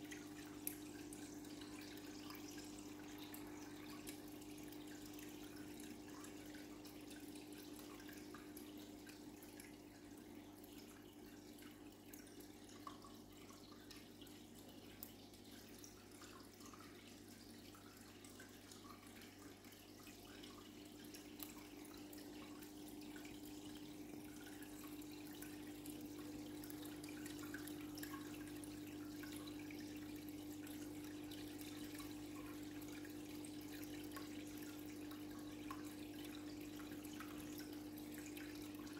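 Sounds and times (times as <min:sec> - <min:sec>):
low mechanical hum: 0:00.0 - 0:38.9
water trickling and dripping: 0:00.0 - 0:38.9.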